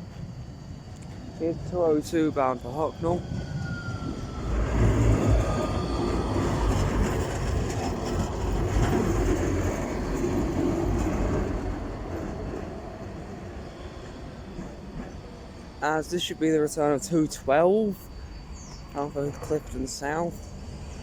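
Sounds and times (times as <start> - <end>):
tram wheels rumbling on rail: 0.0 - 21.0.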